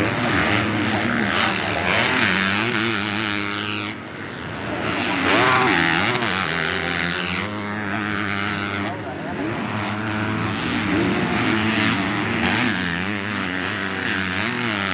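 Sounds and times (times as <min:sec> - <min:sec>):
motocross bikes revving: 0:00.0 - 0:14.9.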